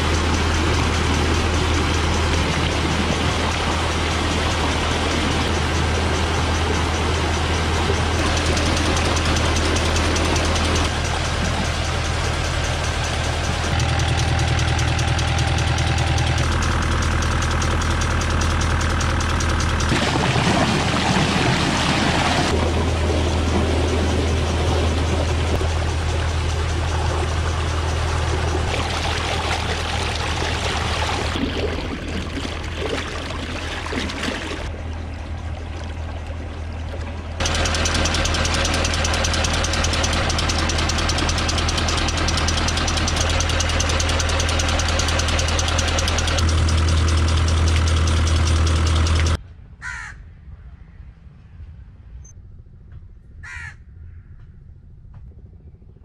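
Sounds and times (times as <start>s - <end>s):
water gushing from a pipe: 0.0s - 19.0s, 19.6s - 49.4s
diesel engine running: 0.0s - 49.4s.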